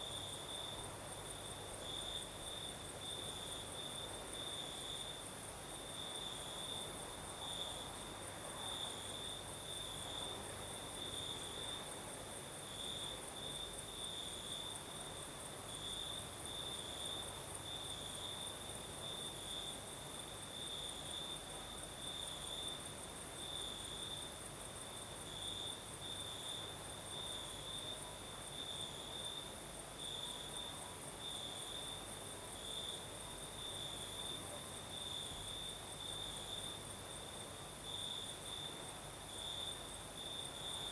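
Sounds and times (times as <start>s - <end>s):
crickets chirping: 0.0s - 40.9s
high insect hiss: 0.0s - 40.9s
light breeze: 0.0s - 40.9s.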